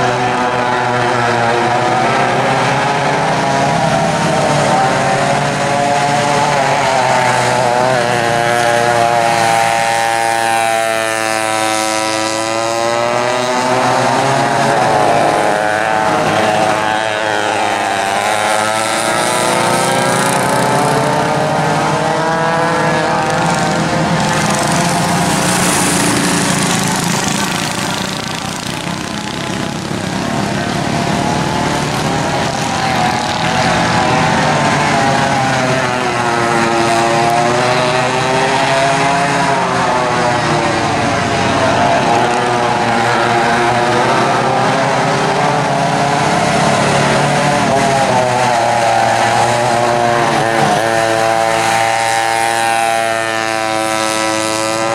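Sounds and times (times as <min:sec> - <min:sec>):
go-kart engines racing: 0:00.0 - 0:54.9.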